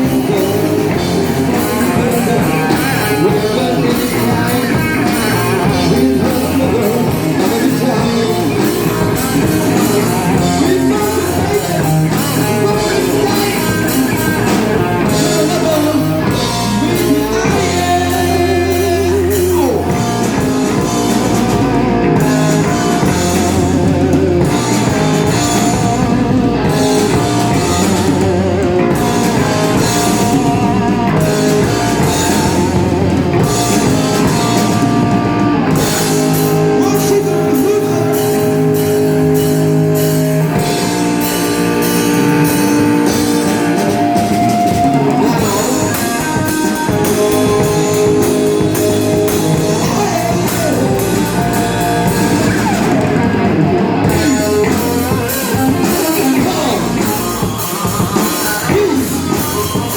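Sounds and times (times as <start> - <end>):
drum kit: 0.0 - 59.9
electric guitar: 0.0 - 59.9
person singing: 0.0 - 59.9.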